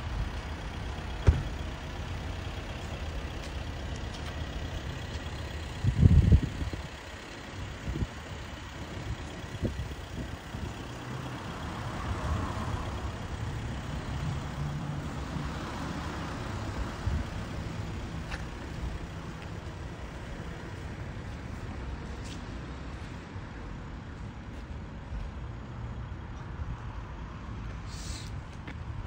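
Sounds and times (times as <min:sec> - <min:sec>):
vehicles passing: 0:00.0 - 0:29.0.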